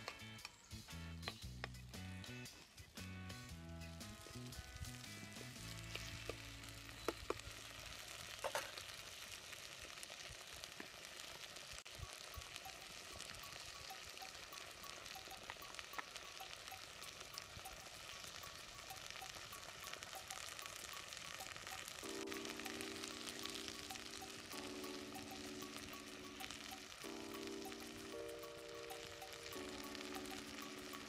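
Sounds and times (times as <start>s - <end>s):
vegetables sizzling in oil: 4.0s - 31.0s.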